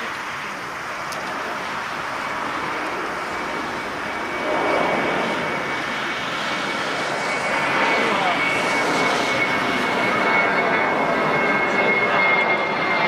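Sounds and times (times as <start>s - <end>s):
jet engines roaring overhead: 0.0s - 13.0s.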